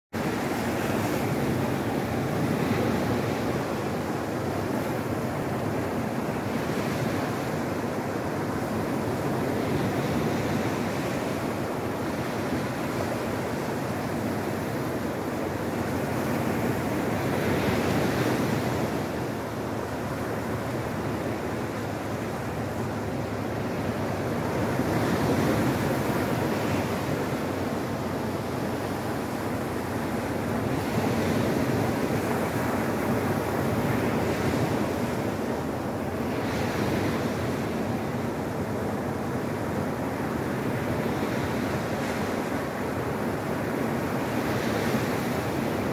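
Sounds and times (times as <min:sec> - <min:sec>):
surf washing up shingle beach: 0:00.2 - 0:45.9.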